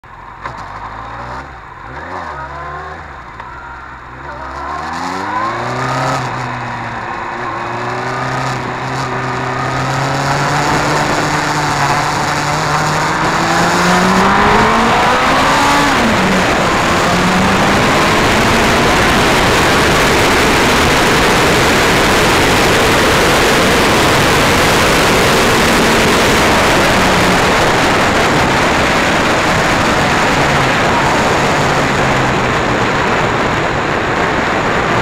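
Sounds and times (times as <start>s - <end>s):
motorcycle engine accelerating: 0.0s - 35.0s
wind noise: 4.7s - 35.0s.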